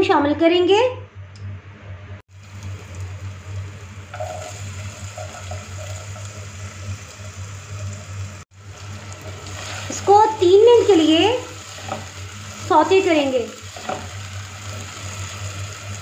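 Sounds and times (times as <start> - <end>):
potatoes sizzling in oil: 2.3 - 16.0.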